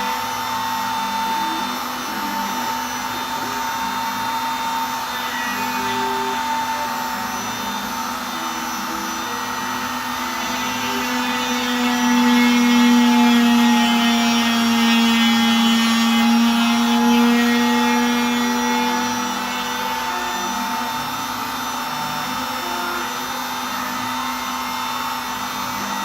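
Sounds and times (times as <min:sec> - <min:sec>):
router spindle motor whining: 0:00.0 - 0:26.0.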